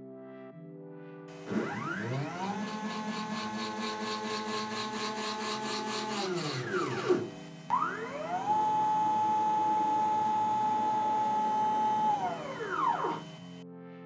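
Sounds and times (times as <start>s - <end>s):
stepper motors whining: 1.3s - 13.6s.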